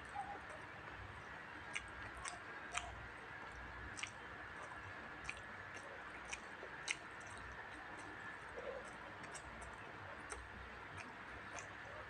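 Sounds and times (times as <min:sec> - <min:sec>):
person chewing food: 0:01.7 - 0:11.8
wet mouth clicks and lip smacks: 0:01.7 - 0:11.8.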